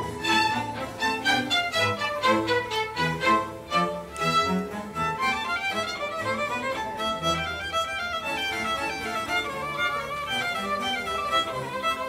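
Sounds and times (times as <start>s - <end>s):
instrumental music with quick melody: 0.0s - 12.0s.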